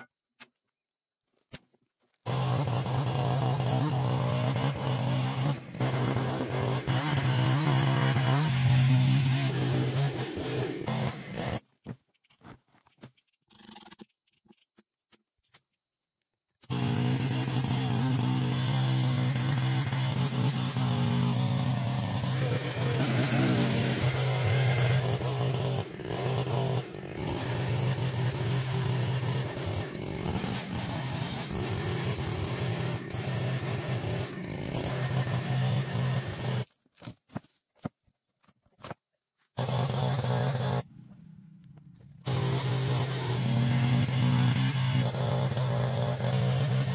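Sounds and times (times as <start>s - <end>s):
chainsaw cutting log: 2.2s - 12.0s, 16.6s - 46.9s.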